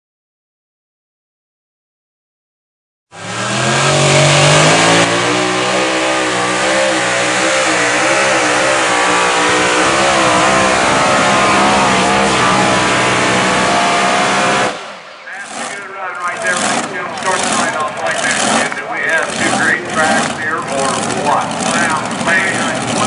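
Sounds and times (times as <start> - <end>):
tractor engine at full throttle: 3.1 - 23.0.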